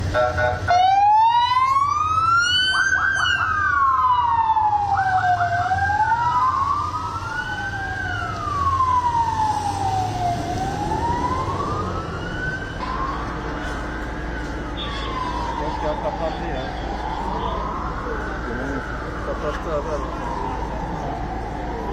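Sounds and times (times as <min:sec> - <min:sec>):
emergency sirens wailing: 0:00.0 - 0:21.9
low vehicle rumble: 0:00.0 - 0:21.9.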